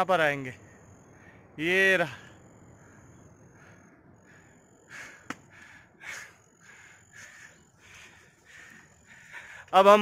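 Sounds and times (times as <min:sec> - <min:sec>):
hiker huffing: 0:00.6 - 0:10.0.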